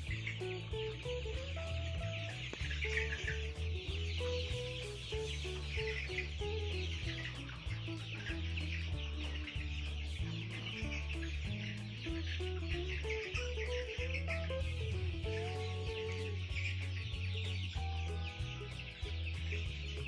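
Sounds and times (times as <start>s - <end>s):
background music with bass line: 0.0s - 20.0s
young chickens peeping and chirping: 0.0s - 20.0s.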